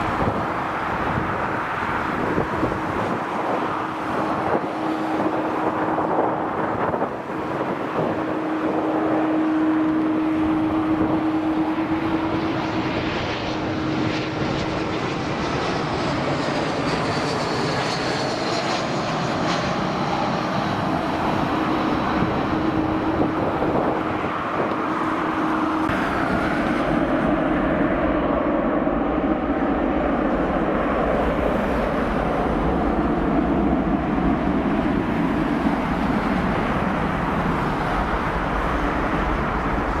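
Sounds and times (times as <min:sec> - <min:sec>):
faint high engine whine: 0:00.0 - 0:40.0
jet engines roaring: 0:00.0 - 0:40.0.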